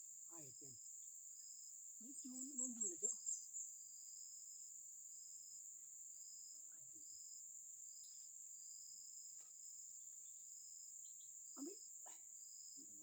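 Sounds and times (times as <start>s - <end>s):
insect high-pitched drone: 0.0s - 13.0s.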